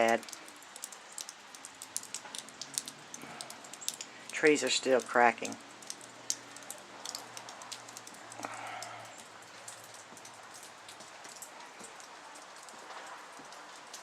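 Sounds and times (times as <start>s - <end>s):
ice and water dripping from trees: 0.0s - 14.0s.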